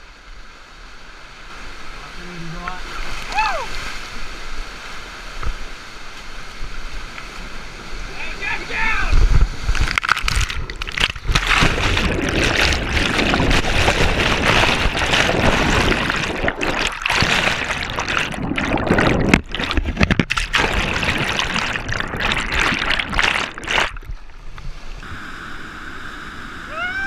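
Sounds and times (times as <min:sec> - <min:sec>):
whitewater rushing and churning: 0:00.5 - 0:24.9.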